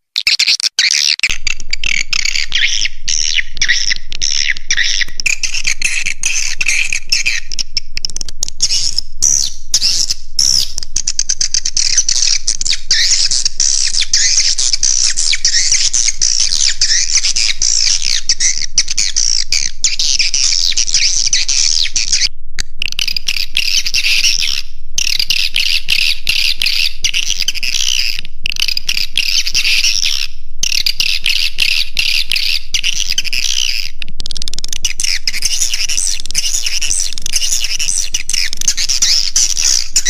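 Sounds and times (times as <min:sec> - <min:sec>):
swiftlets twittering and chirping: 0:00.1 - 0:40.0.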